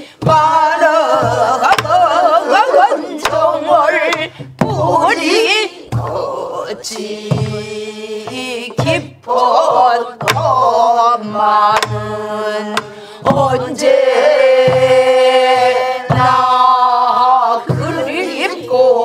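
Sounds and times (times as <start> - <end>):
group singing folk song: 0.0 - 19.0
barrel drums thumping: 0.1 - 18.9.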